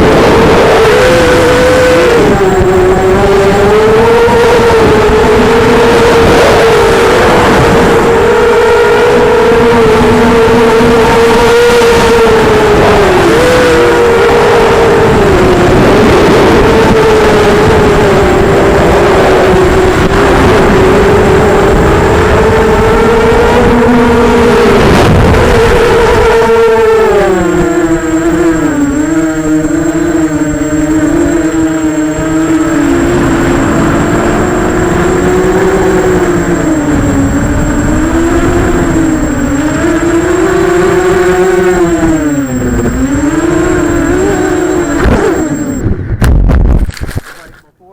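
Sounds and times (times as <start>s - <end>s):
quadcopter motors buzzing: 0.0s - 46.1s, 46.8s - 47.9s
wind rumble on microphone: 0.0s - 47.6s.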